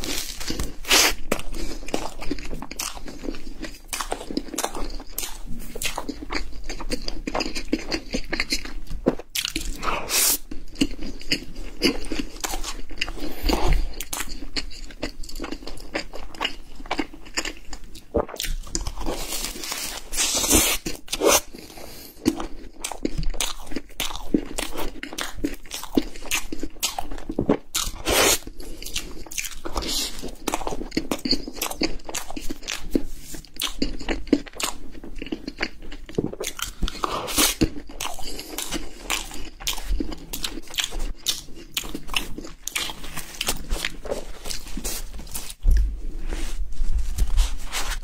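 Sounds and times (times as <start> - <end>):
chewing pastry with crunches: 0.0 - 48.0.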